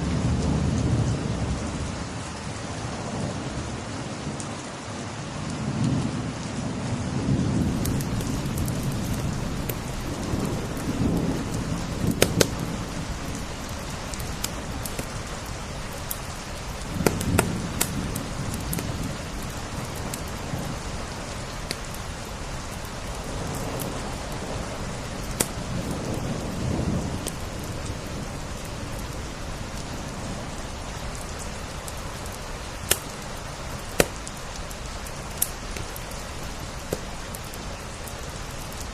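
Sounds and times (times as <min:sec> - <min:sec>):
rain on window glass: 0:00.0 - 0:38.9
wood fire crackling: 0:07.5 - 0:38.9.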